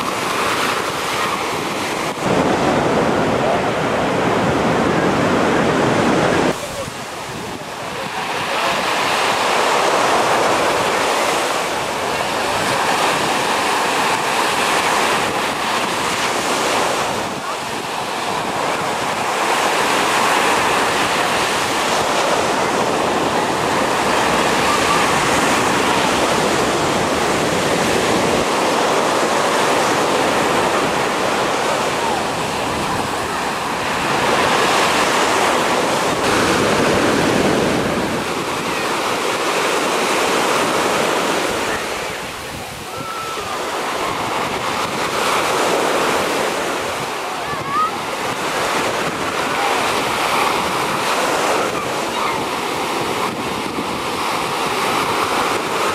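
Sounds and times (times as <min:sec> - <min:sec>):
sea waves breaking on beach: 0:00.0 - 0:55.9.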